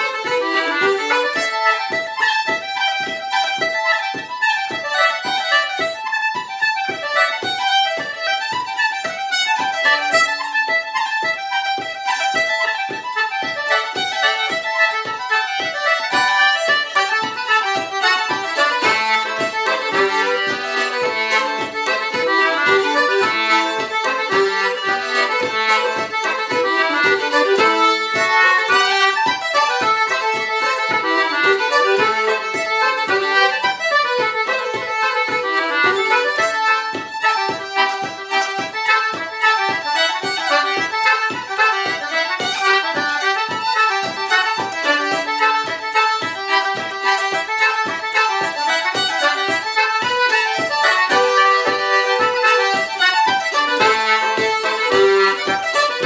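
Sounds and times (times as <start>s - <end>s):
fiddle and concertina reel: 0.0s - 56.0s.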